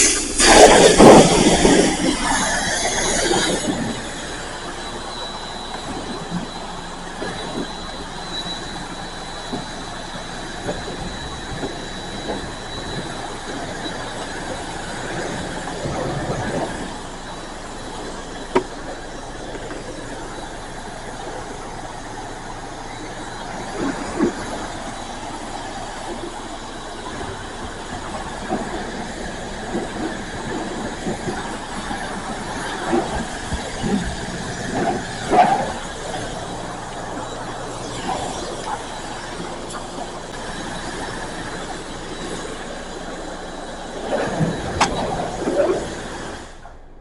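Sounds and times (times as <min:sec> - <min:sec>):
faint high whine: 0:00.0 - 0:47.0.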